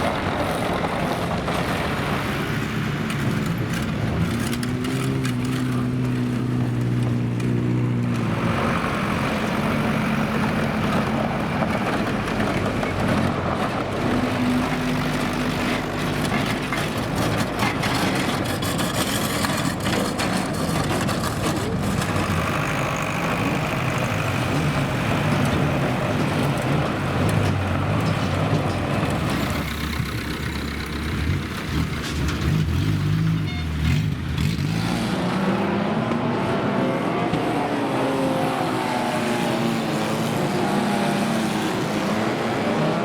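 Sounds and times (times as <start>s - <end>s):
racing car engines revving: 0.0s - 43.0s.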